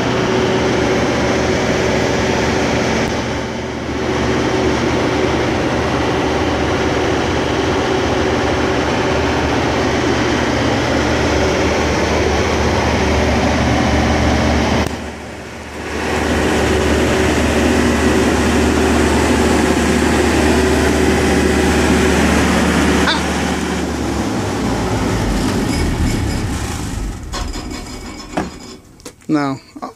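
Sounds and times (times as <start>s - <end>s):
diesel generator humming: 0.0s - 29.9s.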